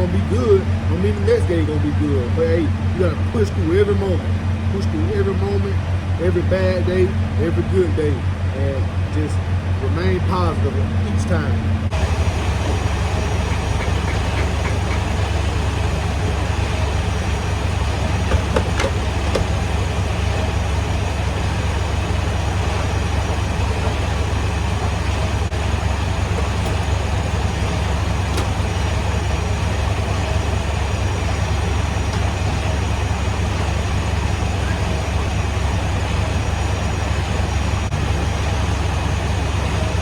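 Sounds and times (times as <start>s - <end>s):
diesel truck engine droning: 0.0s - 40.0s.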